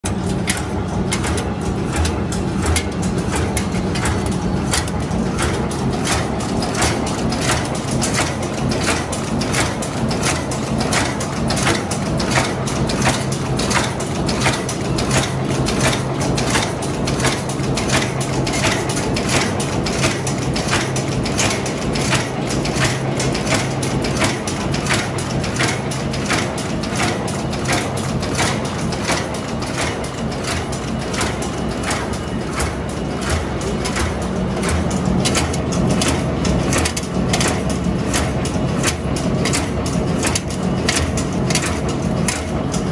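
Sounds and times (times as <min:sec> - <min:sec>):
rivet machine knocking: 0:00.0 - 0:42.9
steady motor hum: 0:00.0 - 0:42.9.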